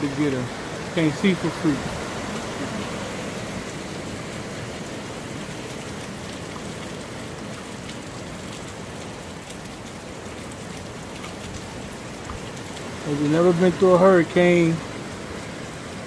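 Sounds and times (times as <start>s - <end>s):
heavy rain and wind: 0.0s - 16.0s.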